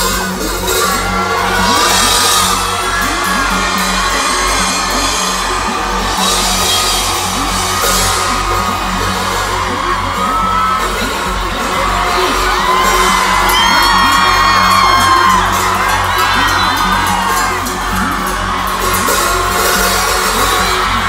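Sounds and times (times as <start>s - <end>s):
crowd yelling and whooping: 0.0s - 21.0s
live band music: 0.0s - 21.0s.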